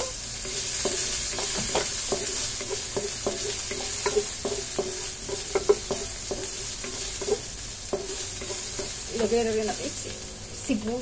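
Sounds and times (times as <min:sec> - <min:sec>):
garlic sizzling in oil: 0:00.0 - 0:11.0
spatula scraping wok: 0:00.0 - 0:11.0.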